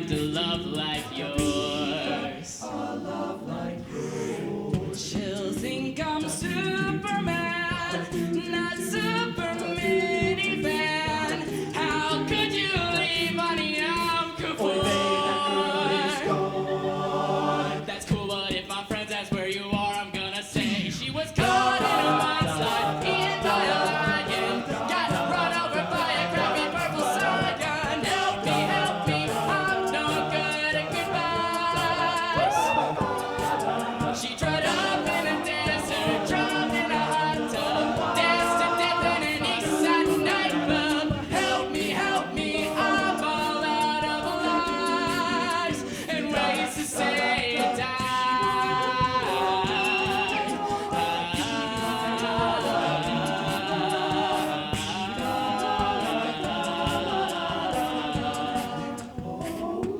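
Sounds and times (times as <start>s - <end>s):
male a cappella harmony singing: 0.0s - 59.9s
vocal percussion beat: 0.0s - 59.9s.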